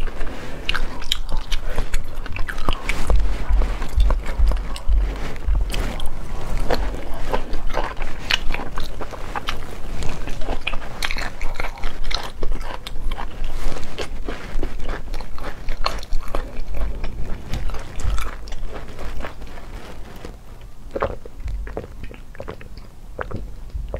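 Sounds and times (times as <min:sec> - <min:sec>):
person chewing: 0:00.0 - 0:23.9.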